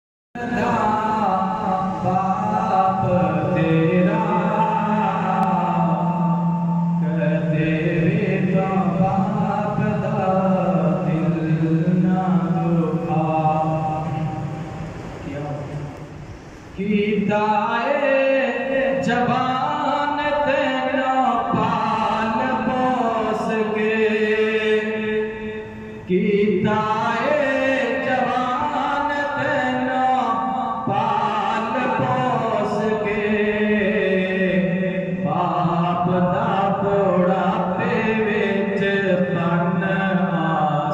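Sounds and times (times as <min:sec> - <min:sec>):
man chanting into a microphone: 0:00.4 - 0:16.1, 0:16.7 - 0:40.9.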